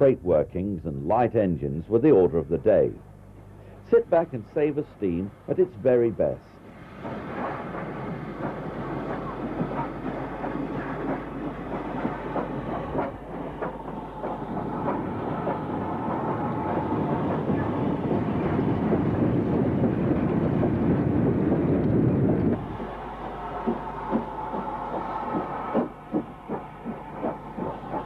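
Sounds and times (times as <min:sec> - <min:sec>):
train rumble: 0:00.0 - 0:28.0
train wheels clicking over rail joints: 0:03.9 - 0:28.0.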